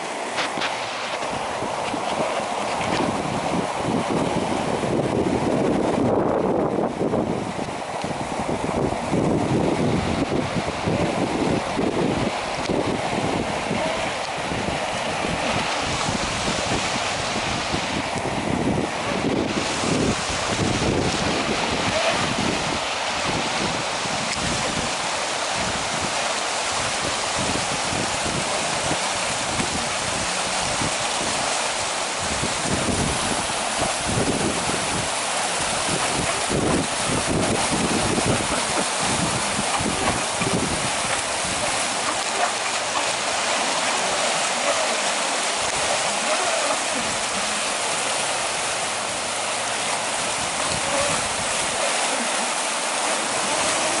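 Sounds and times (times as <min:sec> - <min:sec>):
creek water rushing: 0:00.0 - 0:54.0
wind buffeting microphone: 0:00.0 - 0:54.0.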